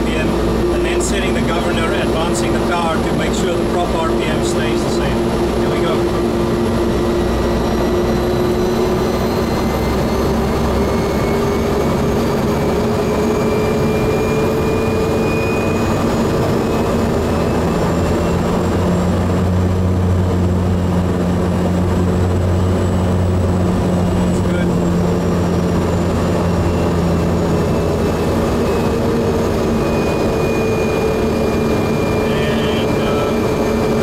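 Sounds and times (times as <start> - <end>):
turboprop engine whine: 0.0 - 34.0.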